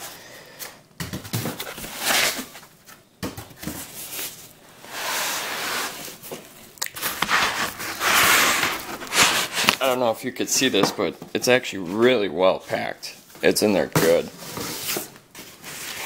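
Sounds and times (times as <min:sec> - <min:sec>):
cardboard and foam rustling: 0:01.1 - 0:16.0.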